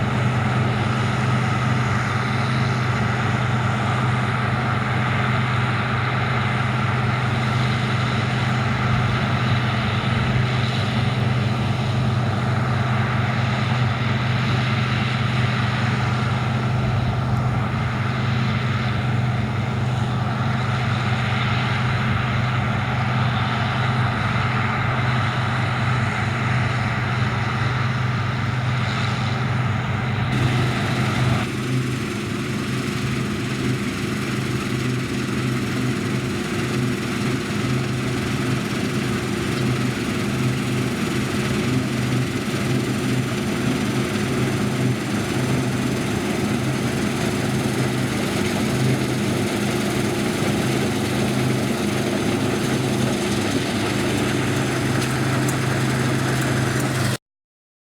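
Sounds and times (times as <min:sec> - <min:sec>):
diesel engine humming: 0:00.0 - 0:57.2.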